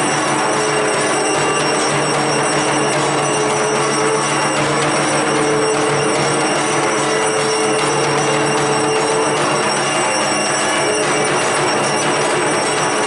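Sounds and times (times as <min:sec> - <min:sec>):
bells ringing: 0:00.0 - 0:13.0
dense noisy background clamour: 0:00.0 - 0:13.0
long held tone: 0:00.0 - 0:13.0.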